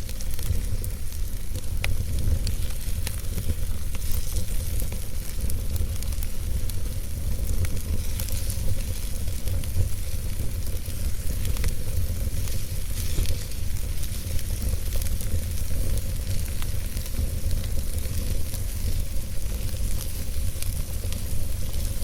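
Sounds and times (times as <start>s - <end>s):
burning wood popping: 0.0s - 22.0s
campfire crackling: 0.0s - 22.0s
fire low rumble: 0.0s - 22.0s.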